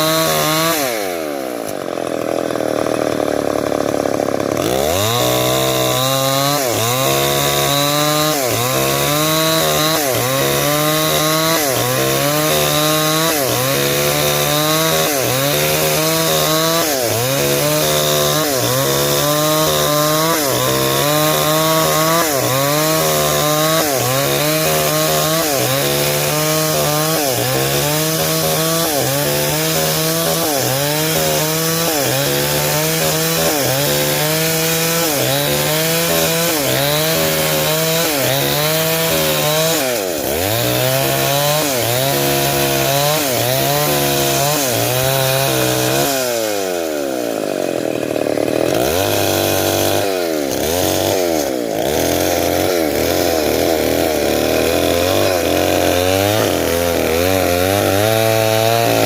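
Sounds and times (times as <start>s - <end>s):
chainsaw cutting timber: 0.0s - 59.0s.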